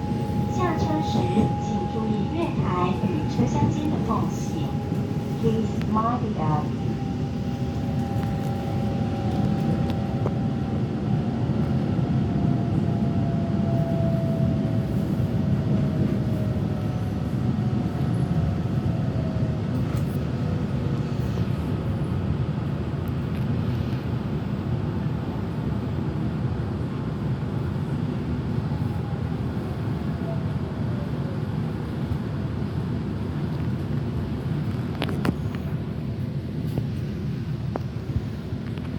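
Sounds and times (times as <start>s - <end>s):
faint train whine: 0.0s - 38.9s
train rumble inside carriage: 0.0s - 38.9s.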